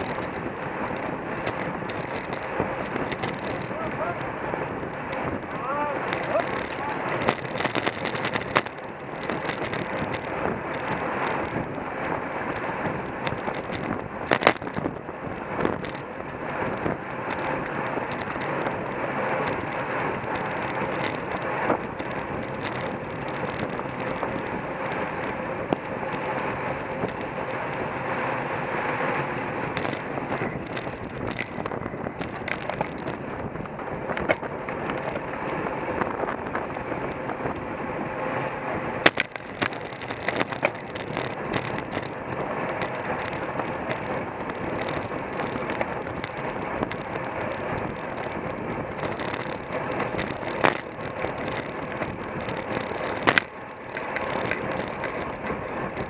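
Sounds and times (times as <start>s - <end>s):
rush of wind: 0.0s - 56.0s
whir of bicycle tyres and drivetrains: 0.0s - 56.0s.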